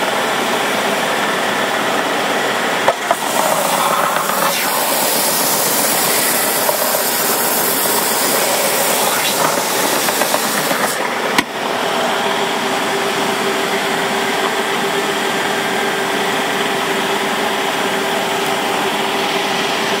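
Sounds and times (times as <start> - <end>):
electric sander running: 0.0 - 20.0.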